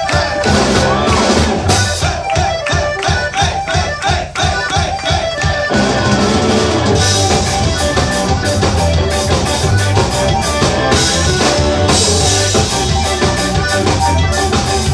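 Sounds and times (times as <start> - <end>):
live punk rock band: 0.0 - 14.9
pounding drum kit: 0.0 - 14.9.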